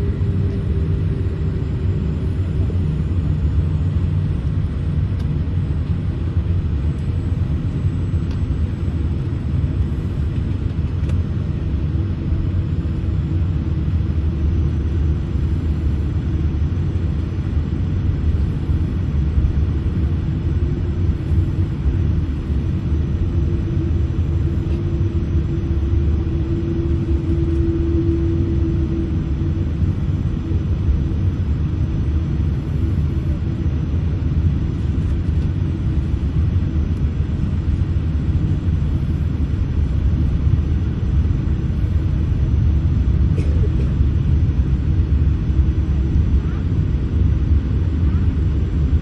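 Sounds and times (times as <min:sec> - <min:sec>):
airliner engines idling rumble: 0:00.0 - 0:49.0
constant cabin hum: 0:00.0 - 0:49.0.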